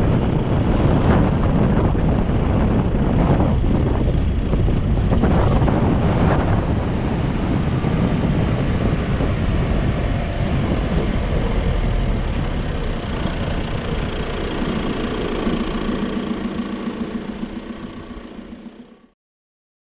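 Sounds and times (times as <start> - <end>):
wind and road noise: 0.0 - 19.1
vehicle engine running: 0.0 - 19.2.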